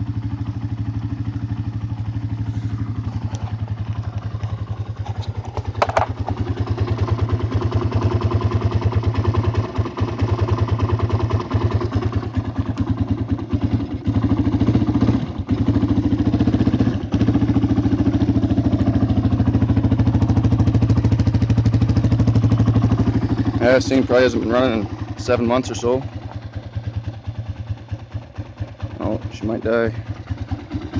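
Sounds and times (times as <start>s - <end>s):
dirt bike engine running: 0.0s - 30.9s.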